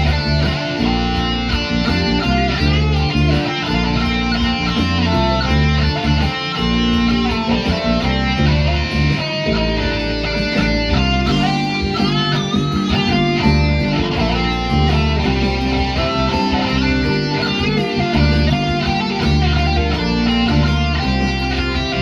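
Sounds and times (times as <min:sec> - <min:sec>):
bass line: 0:00.0 - 0:22.0
guitar melody with bending notes: 0:00.0 - 0:22.0
steady beat: 0:00.0 - 0:22.0.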